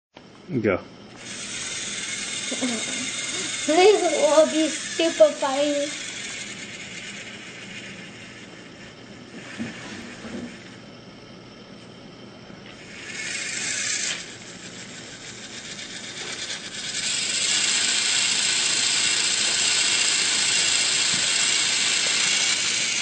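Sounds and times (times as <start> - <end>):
toy train motor whirring: 1.1 - 10.9, 12.6 - 23.0.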